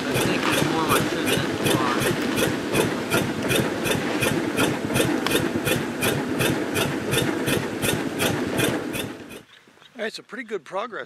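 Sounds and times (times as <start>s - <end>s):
spreader gears clicking: 0.0s - 9.6s.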